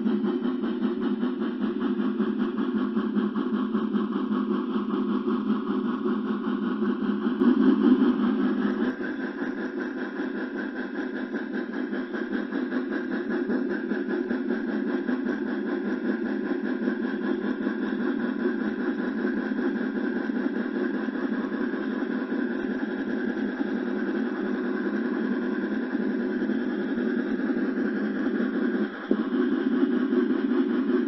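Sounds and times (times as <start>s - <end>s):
model train whirring: 0.0s - 31.0s.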